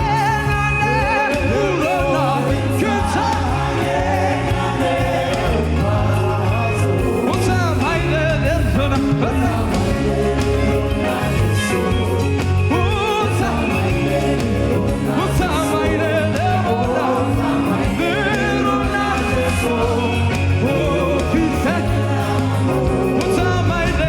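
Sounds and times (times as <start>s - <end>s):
band with heavy bass line: 0.0s - 24.0s
person singing with vibrato: 0.0s - 24.0s.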